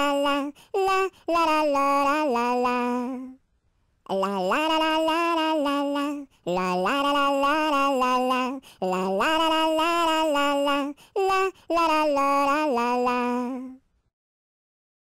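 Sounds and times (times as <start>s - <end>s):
person singing wordless melody: 0.0s - 3.4s, 4.1s - 13.8s.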